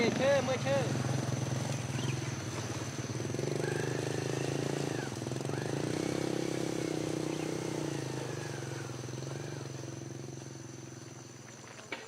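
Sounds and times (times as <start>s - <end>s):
small engine running: 0.0s - 11.6s.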